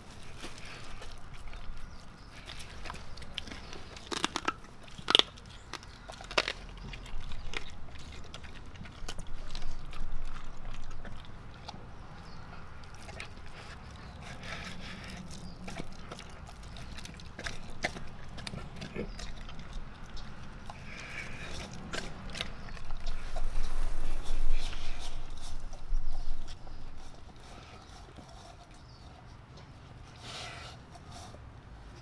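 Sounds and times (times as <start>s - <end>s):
dog chewing and lapping: 0.0s - 32.0s.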